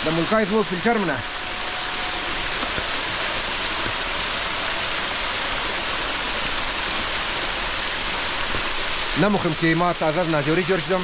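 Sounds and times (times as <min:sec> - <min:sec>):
water pouring down waterfall: 0:00.0 - 0:11.0.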